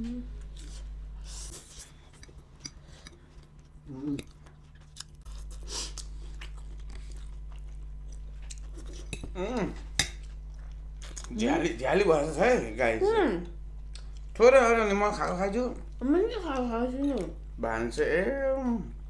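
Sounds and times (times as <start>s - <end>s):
people chewing noodles: 0.0s - 12.4s, 13.0s - 17.6s.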